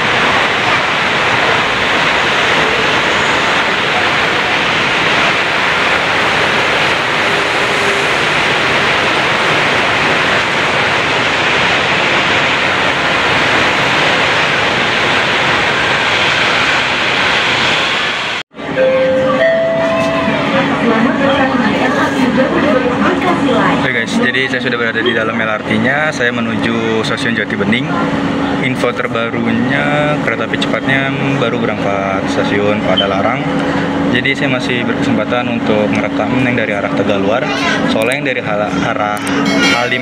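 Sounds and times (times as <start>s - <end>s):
electric train pulling in: 0.0s - 40.0s.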